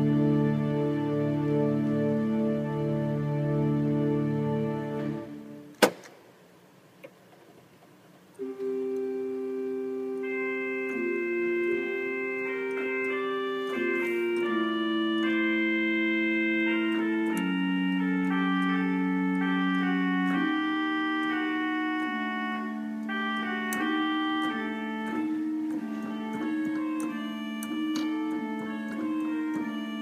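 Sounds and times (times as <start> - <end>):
pipe organ chords: 0.0 - 5.8, 8.3 - 30.0.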